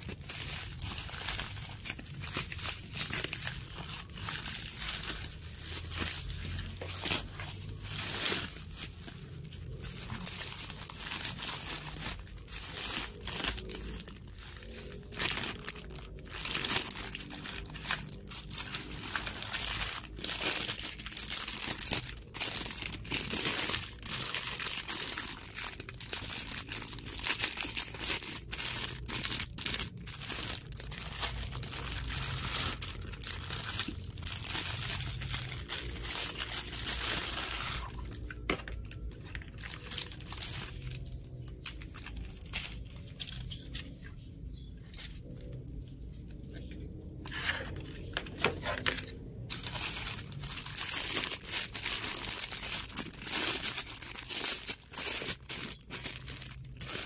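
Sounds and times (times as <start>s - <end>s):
plastic packaging crinkling: 0.0s - 57.0s.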